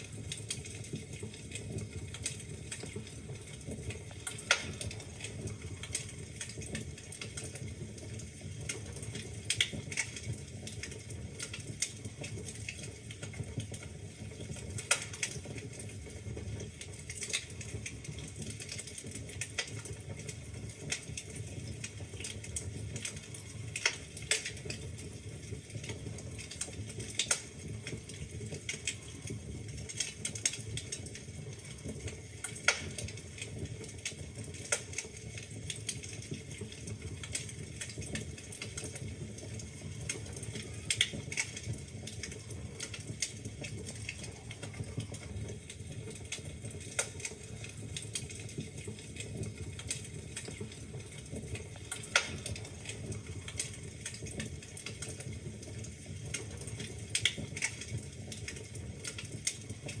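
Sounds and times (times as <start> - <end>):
low rumble of flames: 0.0 - 60.0
wood fire crackling and popping: 0.0 - 60.0.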